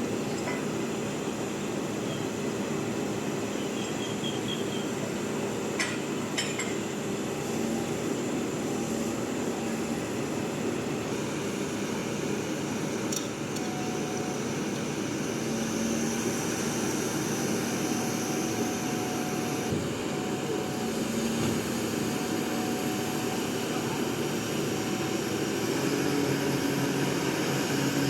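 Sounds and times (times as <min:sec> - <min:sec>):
crane engine running: 0:00.0 - 0:28.0.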